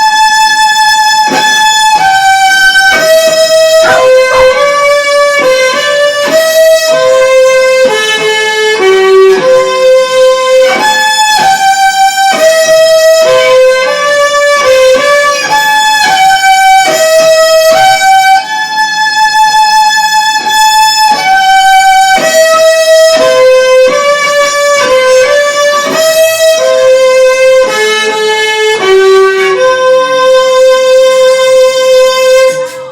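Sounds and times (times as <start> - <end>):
solo violin slow melody: 0.0 - 32.9.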